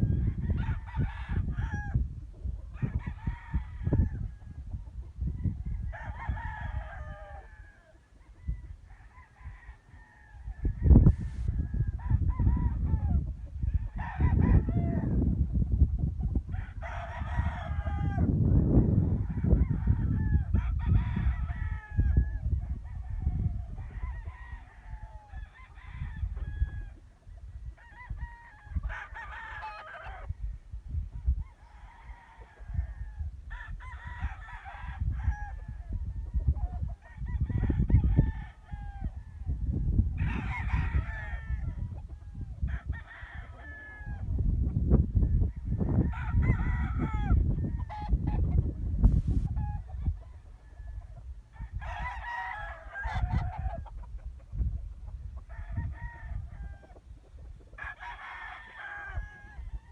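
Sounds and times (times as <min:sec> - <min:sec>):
roosters crowing: 0:00.0 - 0:02.0, 0:02.7 - 0:15.4, 0:16.3 - 0:44.5, 0:45.1 - 0:48.8, 0:49.4 - 0:54.2, 0:55.3 - 0:59.9.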